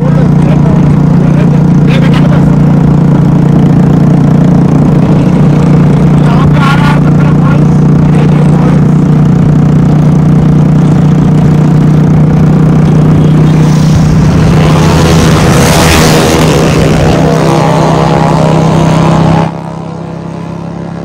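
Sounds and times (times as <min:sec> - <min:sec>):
motorcycle engine droning: 0:00.0 - 0:21.0
rush of noise: 0:00.0 - 0:21.0.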